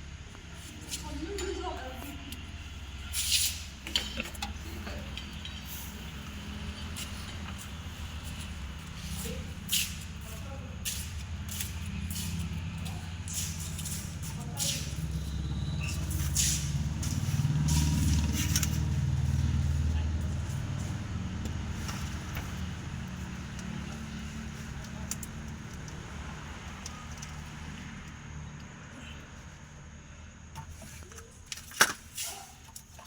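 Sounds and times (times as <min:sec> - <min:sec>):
vehicle engine running: 0:00.0 - 0:31.2.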